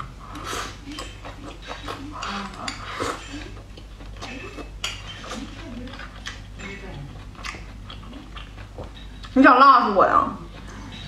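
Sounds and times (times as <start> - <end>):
chewing and mouth noises: 0.0 - 9.4.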